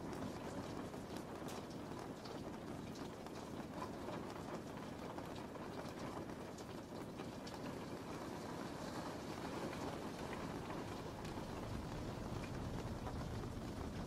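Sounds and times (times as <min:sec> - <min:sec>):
raindrop ticks: 0:00.0 - 0:14.0
steady rain hiss: 0:00.0 - 0:14.0.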